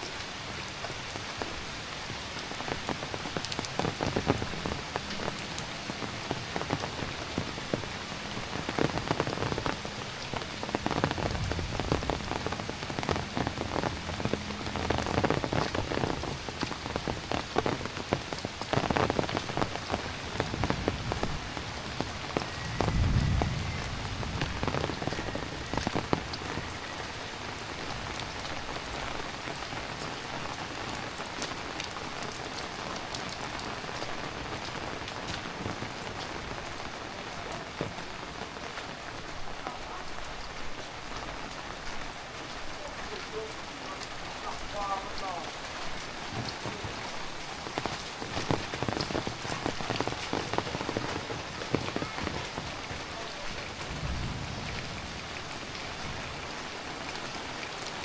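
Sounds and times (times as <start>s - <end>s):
heavy rain: 0.0s - 58.0s
raindrops tapping on surfaces: 0.0s - 58.0s.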